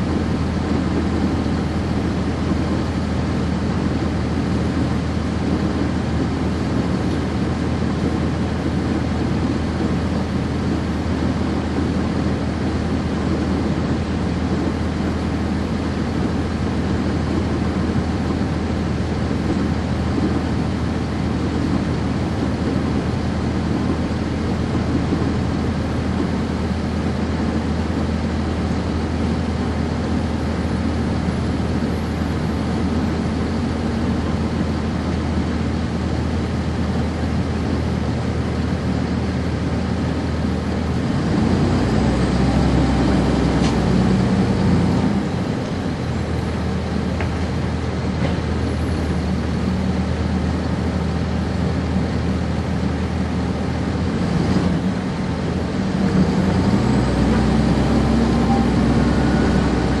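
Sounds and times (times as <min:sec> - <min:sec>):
bus diesel engine: 0:00.0 - 1:00.0.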